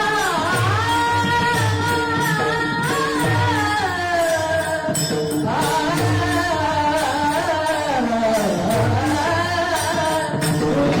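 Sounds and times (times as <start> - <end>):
instrumental accompaniment: 0.0 - 11.0
light percussion: 0.0 - 11.0.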